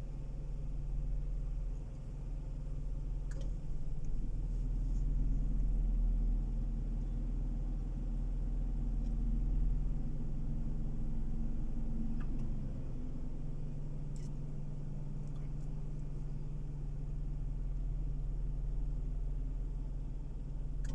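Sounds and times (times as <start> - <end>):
car engine hum: 0.0 - 20.9
road rumble: 0.0 - 20.9.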